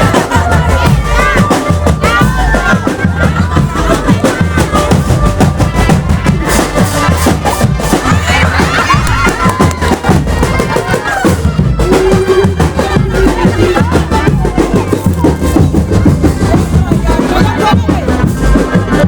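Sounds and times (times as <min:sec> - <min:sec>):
loud music with fast drum beat: 0:00.0 - 0:19.0.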